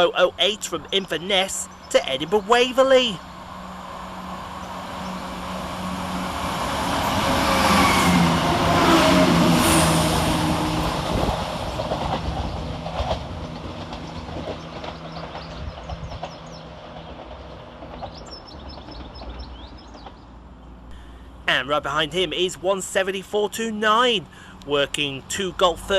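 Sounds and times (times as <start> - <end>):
train wheels on rails: 0.0 - 23.6
diesel train engine: 0.0 - 25.9.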